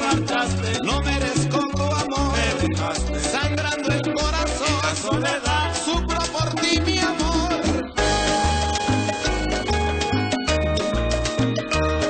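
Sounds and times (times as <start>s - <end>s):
bass notes: 0.0s - 12.0s
salsa band playing: 0.0s - 12.0s.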